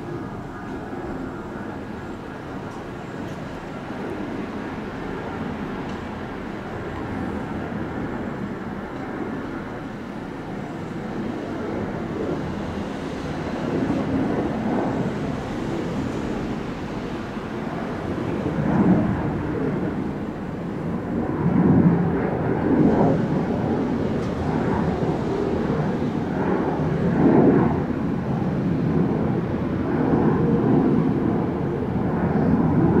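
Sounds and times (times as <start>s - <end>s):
jet airliner engines rumbling: 0.0s - 33.0s.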